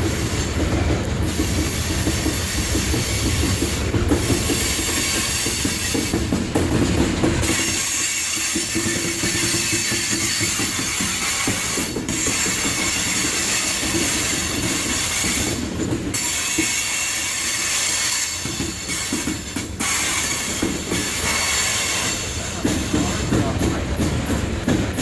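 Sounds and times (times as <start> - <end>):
steel wheels squealing on rails: 0.0 - 25.0
train rumble and clatter: 0.0 - 25.0.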